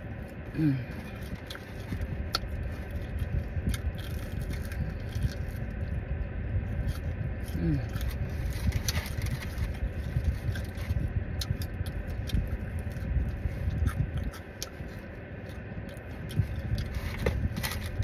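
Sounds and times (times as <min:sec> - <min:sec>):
low car engine rumble: 0:00.0 - 0:18.0
chewing and lip-smacking: 0:00.2 - 0:06.0, 0:06.7 - 0:18.0.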